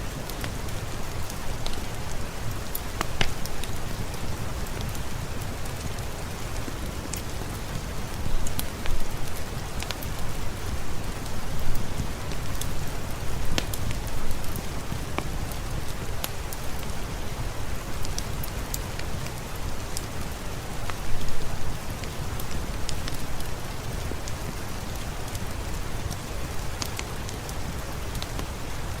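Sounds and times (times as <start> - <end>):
steady rain falling: 0.0 - 29.0
sharp ticks and crackles: 0.2 - 10.4, 11.6 - 17.0, 18.0 - 28.5.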